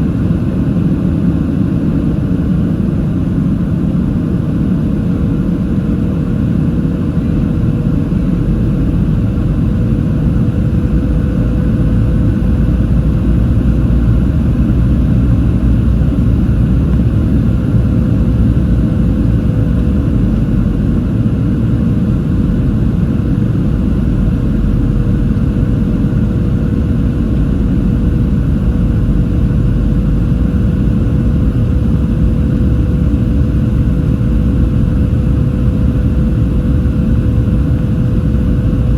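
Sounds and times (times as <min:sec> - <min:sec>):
airplane cabin roar: 0:00.0 - 0:38.9.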